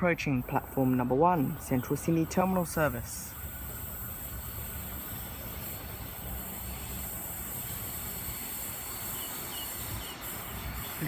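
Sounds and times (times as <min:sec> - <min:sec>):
distant train rumble: 0:00.0 - 0:11.0.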